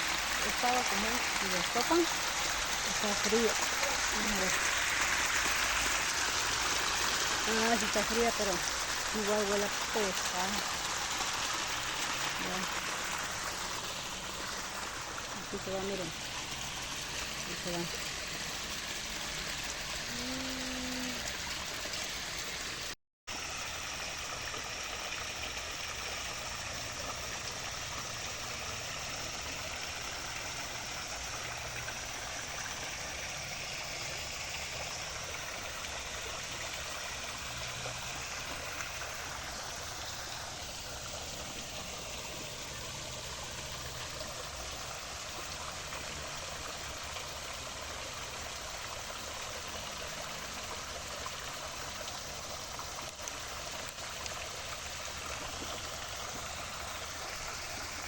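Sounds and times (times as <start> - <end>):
water rushing in a stream: 0.0 - 58.0.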